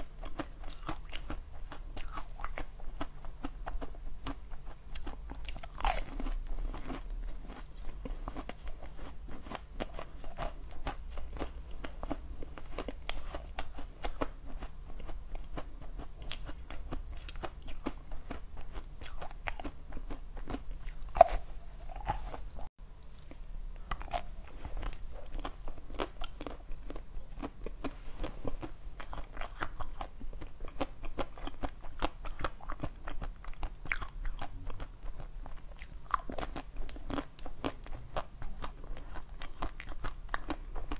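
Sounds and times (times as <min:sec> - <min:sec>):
chewing crunchy sweets: 0:00.0 - 0:40.9.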